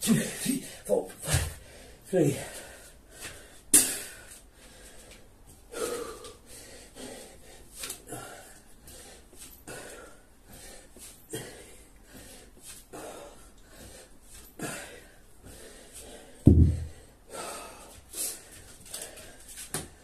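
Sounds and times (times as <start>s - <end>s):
man breathing hard and exhaling: 0.5s - 20.0s.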